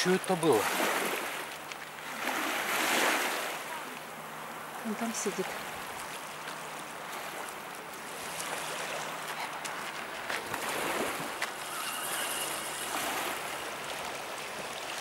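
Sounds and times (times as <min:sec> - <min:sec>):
small waves on pebble shore: 0:00.0 - 0:15.0.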